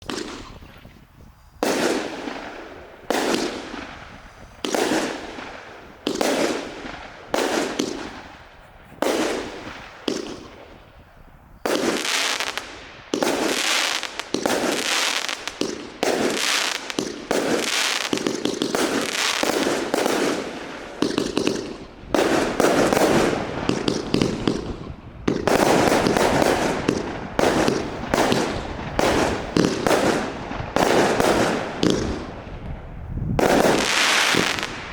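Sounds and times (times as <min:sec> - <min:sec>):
fireworks bursting with crackling hiss: 0:00.0 - 0:34.9.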